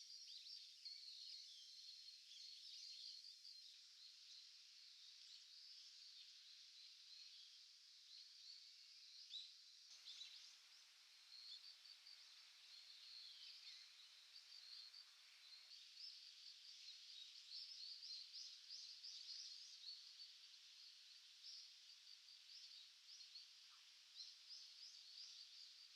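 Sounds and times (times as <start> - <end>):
faint bird twittering: 0.0 - 25.9.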